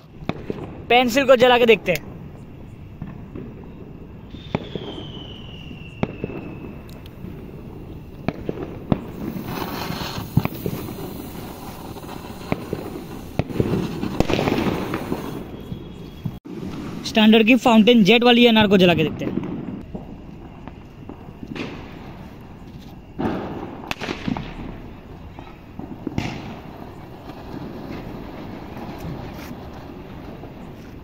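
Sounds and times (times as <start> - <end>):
firework fizzing hiss: 0.0 - 31.0
sharp crackles: 0.0 - 31.0.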